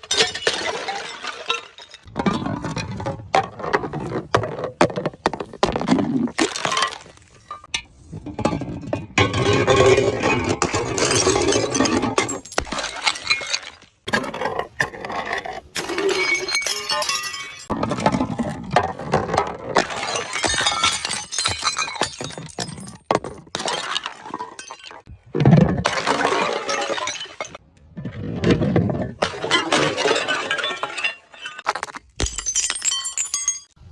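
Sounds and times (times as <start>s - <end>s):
glass bottles shattering: 0.0s - 3.0s, 5.7s - 7.8s, 8.4s - 14.1s, 15.8s - 27.6s, 29.2s - 33.8s.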